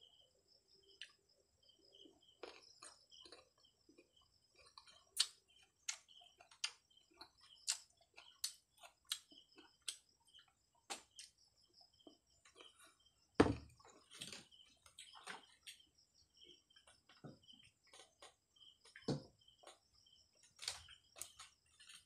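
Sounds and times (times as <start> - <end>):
sharp crunches of chewing: 1.9 - 13.2, 13.8 - 22.0.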